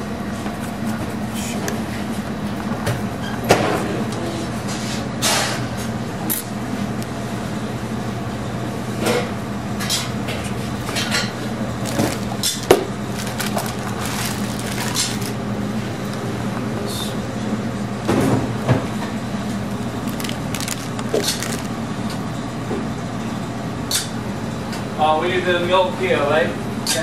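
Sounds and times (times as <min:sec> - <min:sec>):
steady machine hum: 0:00.0 - 0:26.8.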